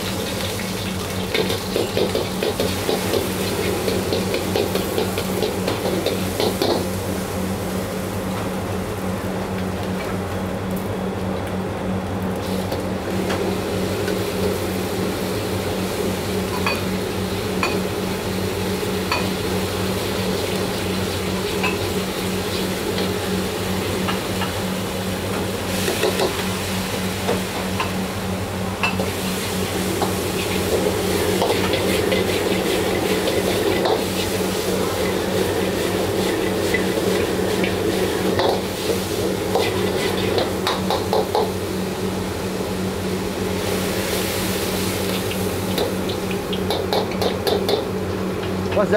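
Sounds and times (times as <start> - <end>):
food sizzling in a wok: 0.0 - 10.2, 12.4 - 48.7.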